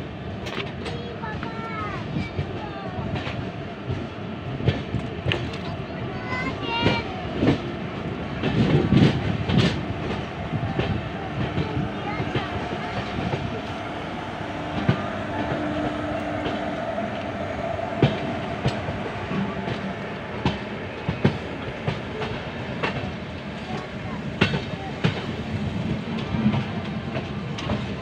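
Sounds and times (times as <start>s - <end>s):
train coaches rolling: 0.0s - 28.0s
wheels clicking over rail joints: 0.4s - 4.0s, 4.6s - 28.0s.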